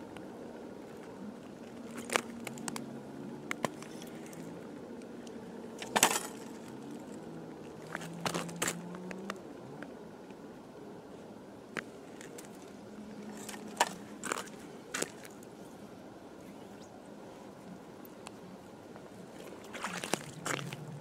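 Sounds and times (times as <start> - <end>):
faint engine hum: 0.0 - 21.0.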